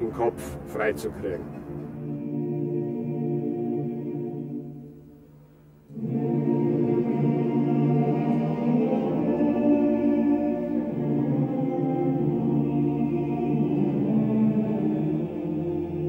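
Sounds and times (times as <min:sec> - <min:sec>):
choir-like voices: 0:00.0 - 0:05.2, 0:05.9 - 0:16.0
slow held chords: 0:00.0 - 0:16.0.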